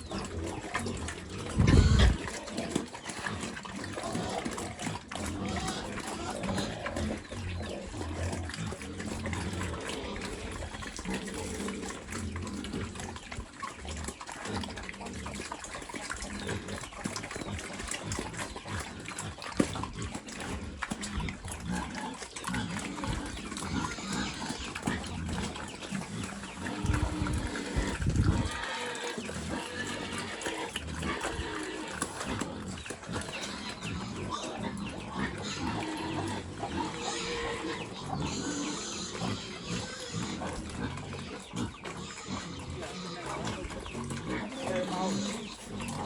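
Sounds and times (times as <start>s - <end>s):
pigs chewing and slurping: 0.0s - 46.0s
pigs grunting: 0.0s - 46.0s.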